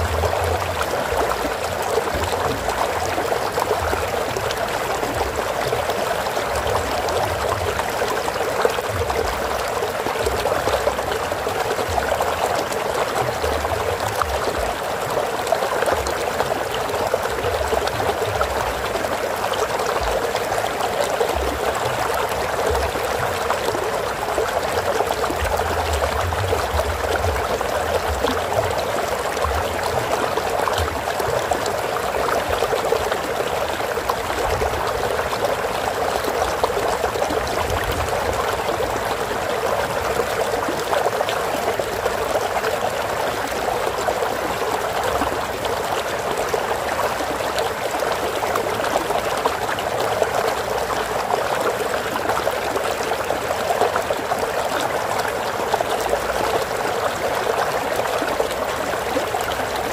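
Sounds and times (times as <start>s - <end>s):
stream of flowing water: 0.0s - 59.9s.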